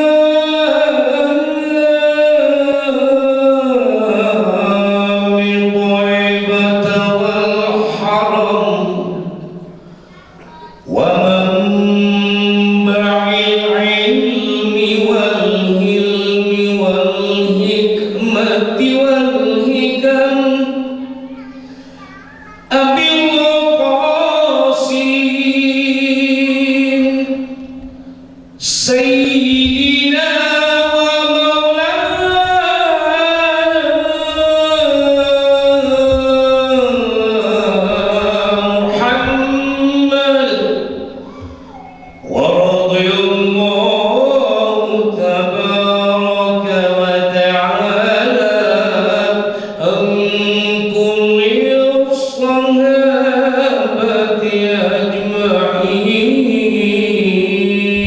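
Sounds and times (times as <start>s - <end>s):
slow chanted singing: 0.0s - 58.0s.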